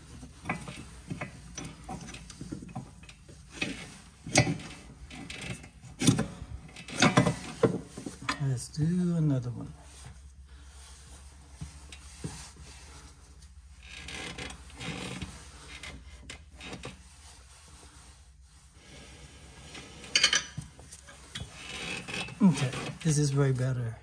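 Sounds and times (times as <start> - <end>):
tools rubbing and scraping: 0.0 - 8.6, 9.4 - 23.6.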